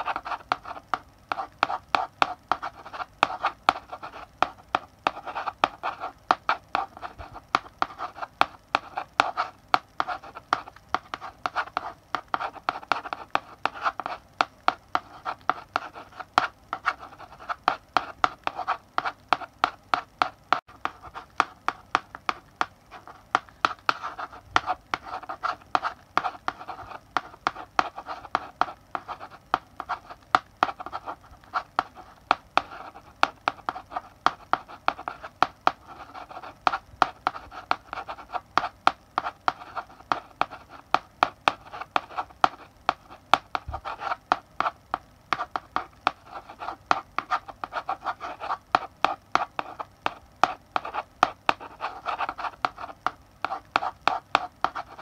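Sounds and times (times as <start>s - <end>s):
chalk writing on blackboard: 0.0s - 55.0s.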